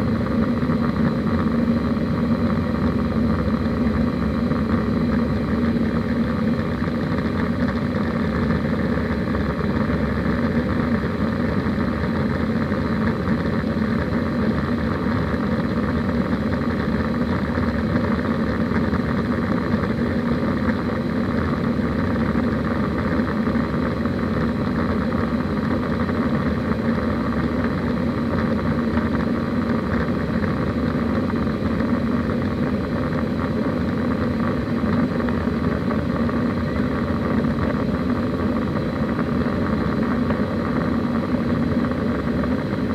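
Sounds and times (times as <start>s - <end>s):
airplane engine drone: 0.0s - 42.9s
constant low hum: 0.0s - 42.9s.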